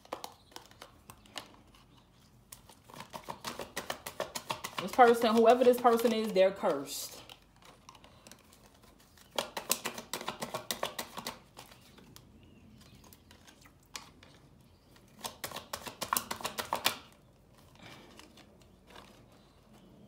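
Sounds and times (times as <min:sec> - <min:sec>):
cards being shuffled: 0:00.0 - 0:20.0.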